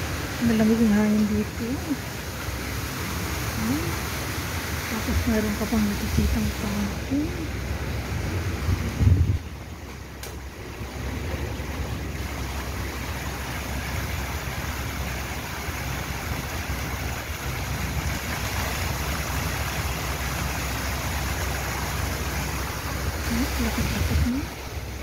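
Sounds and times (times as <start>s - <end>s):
fountain water splashing: 0.0s - 25.0s.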